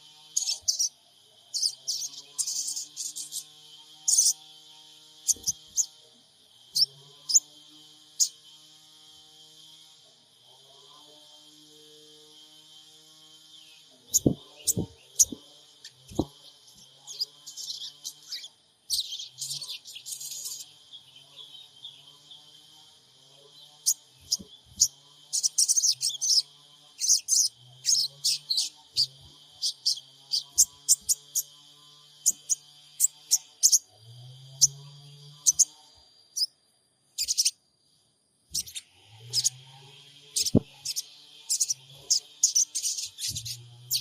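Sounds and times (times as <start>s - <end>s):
birds chirping: 0.0s - 4.5s, 5.2s - 8.5s, 13.4s - 36.6s, 37.2s - 37.6s, 38.5s - 44.0s.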